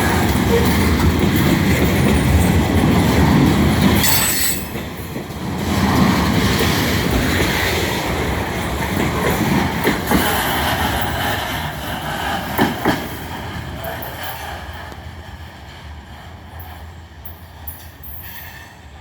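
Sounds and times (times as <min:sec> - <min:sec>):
train cars clanking: 0:00.0 - 0:19.0
train wheels clattering over rail joints: 0:00.0 - 0:19.0.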